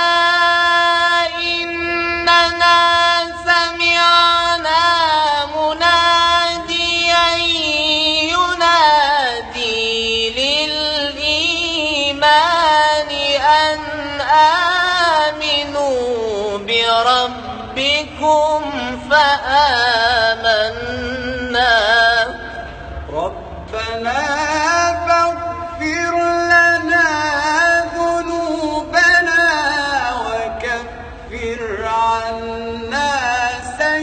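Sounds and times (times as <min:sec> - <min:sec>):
man chanting recitation: 0:00.0 - 0:34.0.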